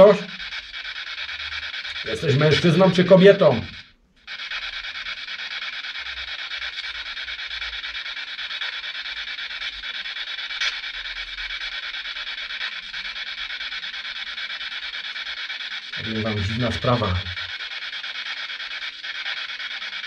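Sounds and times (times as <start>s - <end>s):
pulsing radio static: 0.0s - 20.0s.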